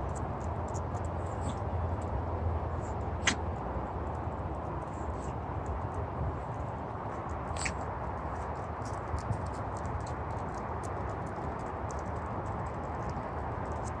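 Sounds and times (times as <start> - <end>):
dogs' claws clicking: 0.0 - 2.3, 2.9 - 14.0
steady low background noise: 0.0 - 14.0.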